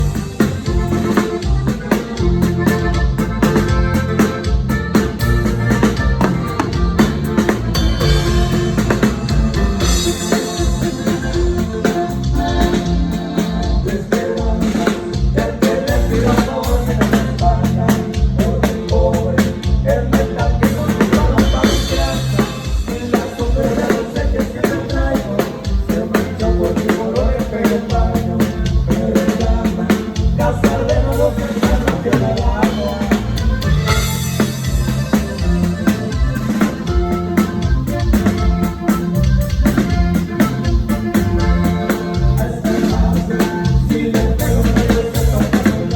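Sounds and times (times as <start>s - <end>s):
drum kit beat: 0.0s - 45.9s
live band playing: 0.0s - 45.9s.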